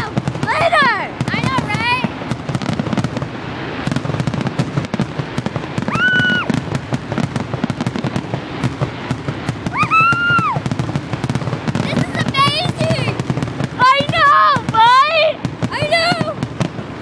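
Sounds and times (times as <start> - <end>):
fireworks crackling: 0.0 - 17.0
high whistling fireworks: 0.0 - 17.0.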